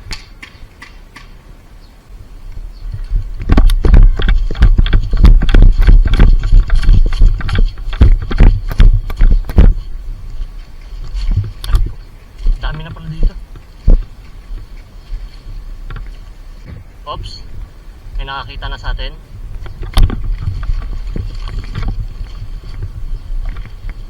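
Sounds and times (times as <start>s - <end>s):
rustling: 0.0s - 24.0s
footstep thumps: 2.9s - 17.8s, 19.4s - 24.0s.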